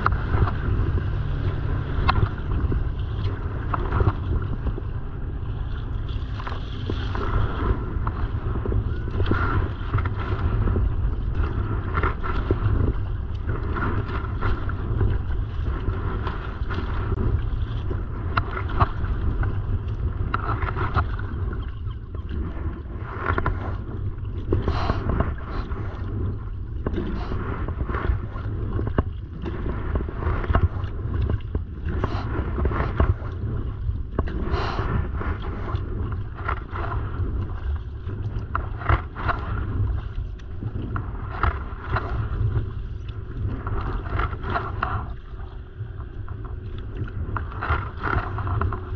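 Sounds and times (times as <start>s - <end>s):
paddle splashing in water: 0.0s - 48.9s
wind buffeting microphone: 0.0s - 48.9s.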